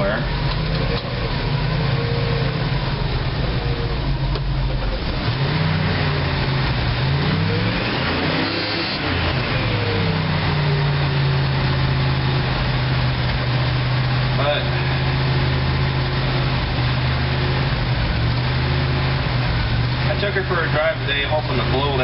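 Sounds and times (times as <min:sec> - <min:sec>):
engine revving and idling: 0:00.0 - 0:22.0.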